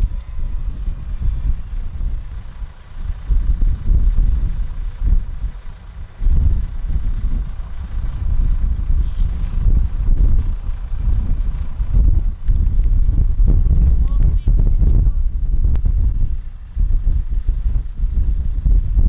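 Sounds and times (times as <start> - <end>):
vehicle engine running: 0.0 - 19.0
wind on microphone: 0.0 - 19.0.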